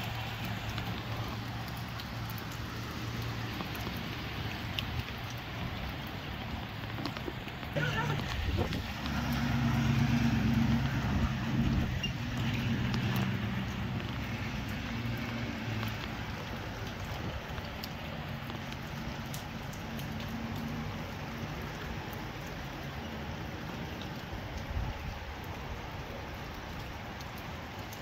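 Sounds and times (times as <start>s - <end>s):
vehicle engine hum: 0.0s - 24.0s
raindrop ticks: 0.0s - 28.0s
steady rain falling: 0.0s - 28.0s.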